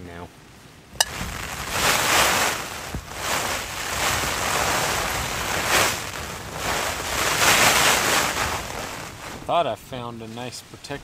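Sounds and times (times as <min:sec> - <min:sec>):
rain on a tent flysheet: 0:00.0 - 0:11.0
wind gusts buffeting a tent: 0:00.0 - 0:11.0.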